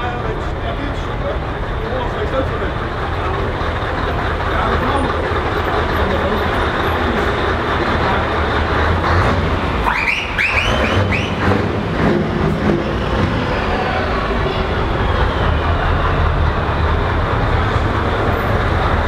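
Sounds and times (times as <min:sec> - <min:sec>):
truck engine rumble: 0:00.0 - 0:19.0.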